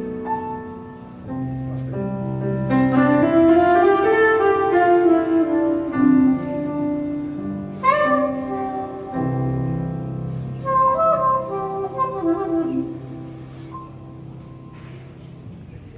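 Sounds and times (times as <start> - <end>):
piano chords: 0.0 - 15.9
saxophone long held notes: 1.5 - 15.1.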